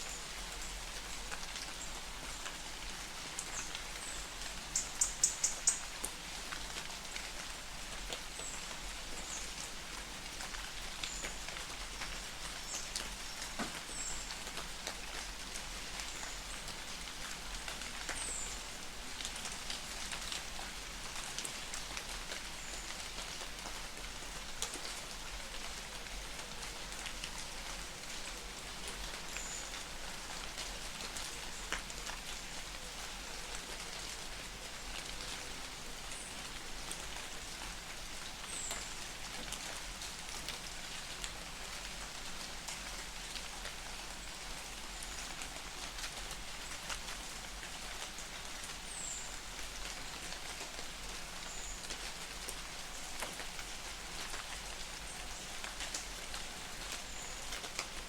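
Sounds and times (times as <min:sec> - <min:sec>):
light rain in a forest: 0:00.0 - 0:58.0.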